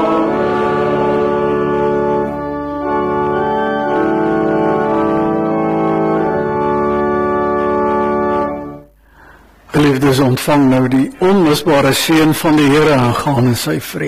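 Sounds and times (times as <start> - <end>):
church organ sustained chords: 0.0 - 13.7.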